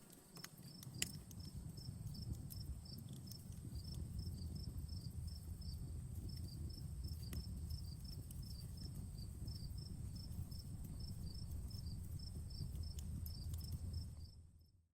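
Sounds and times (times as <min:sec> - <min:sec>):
burning wood crackles: 0:00.0 - 0:14.8
campfire rumble: 0:00.0 - 0:14.8
crickets chirping: 0:00.0 - 0:14.8
insect drone: 0:00.0 - 0:14.8.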